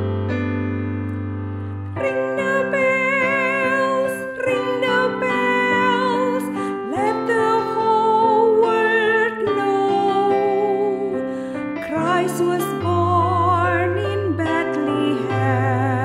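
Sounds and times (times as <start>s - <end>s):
piano accompaniment: 0.0s - 16.0s
woman singing a hymn: 2.0s - 16.0s.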